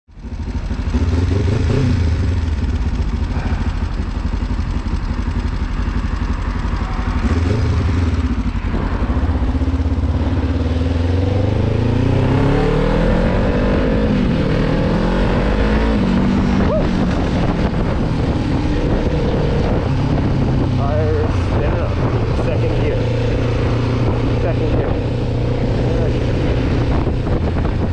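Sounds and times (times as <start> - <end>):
motorcycle engine revving: 0.1 - 27.9.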